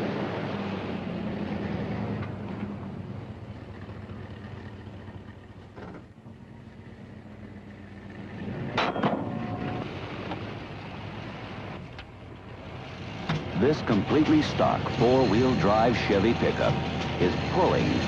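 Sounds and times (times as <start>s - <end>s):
engine running steady hum: 0.0s - 18.0s.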